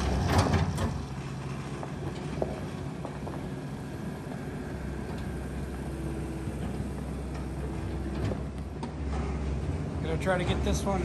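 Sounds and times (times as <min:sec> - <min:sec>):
skid loader engine running: 0:00.0 - 0:11.0.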